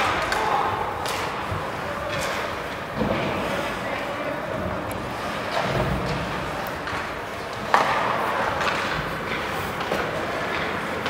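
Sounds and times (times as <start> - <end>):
skates on ice: 0.0 - 11.0
sticks and puck clacking: 0.0 - 11.0.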